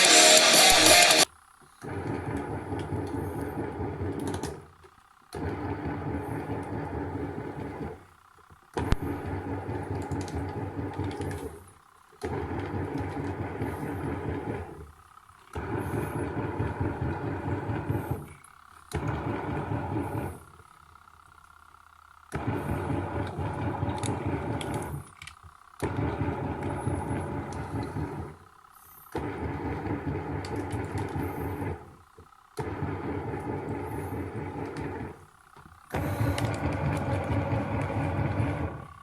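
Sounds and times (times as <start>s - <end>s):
washing machine churning: 0.0s - 20.9s, 22.2s - 39.0s.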